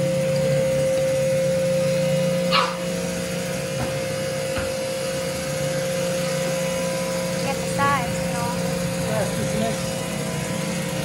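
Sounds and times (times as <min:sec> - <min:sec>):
electric pressure washer hum and hiss: 0:00.0 - 0:11.0.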